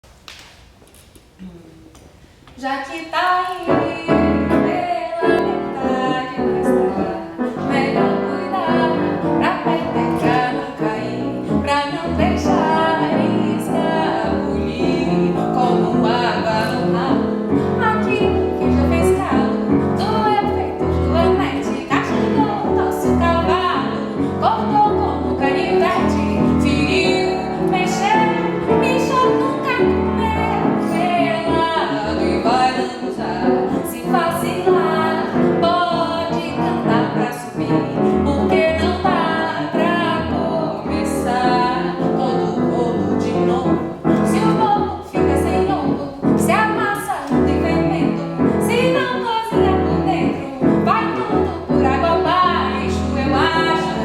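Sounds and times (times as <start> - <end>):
woman singing: 2.6 - 54.0.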